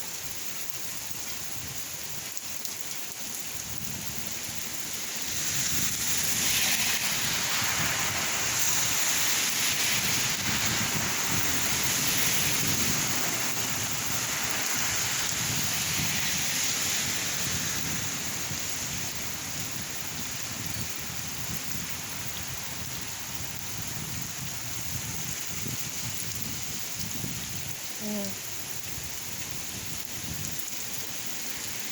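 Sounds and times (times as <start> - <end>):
rain falling and splashing: 0.0 - 31.9.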